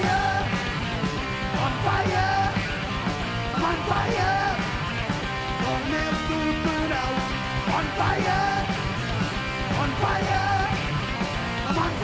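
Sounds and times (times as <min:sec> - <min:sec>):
distorted electric guitar: 0:00.0 - 0:12.0
heavy metal band playing live: 0:00.0 - 0:12.0.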